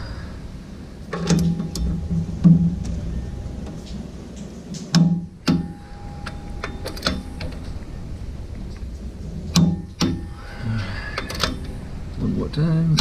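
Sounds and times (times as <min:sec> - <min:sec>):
ringing metal tone: 0:01.2 - 0:13.0.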